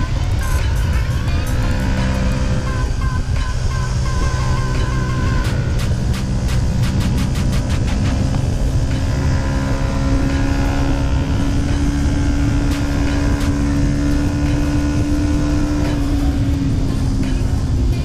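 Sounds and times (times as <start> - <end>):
heavy wind rumble: 0.0 - 18.0
motorcycle engine at steady revs: 0.0 - 18.0.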